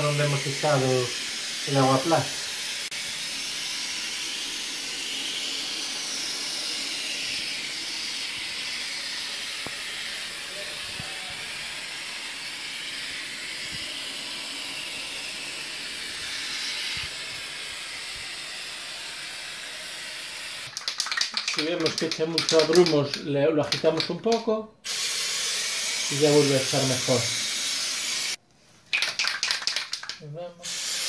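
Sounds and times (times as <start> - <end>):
aerosol spray can hissing: 0.0 - 28.4, 29.0 - 31.0.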